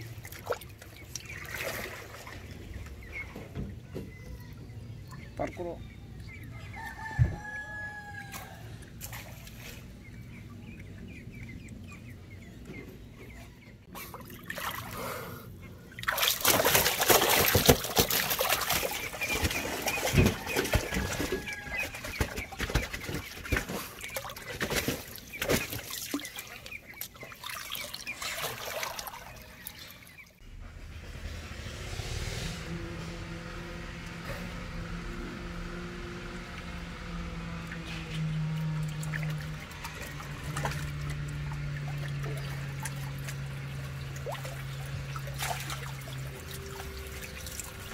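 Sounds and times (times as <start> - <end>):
low steady hum: 0.0 - 47.9
water splashing and sloshing: 0.0 - 47.9.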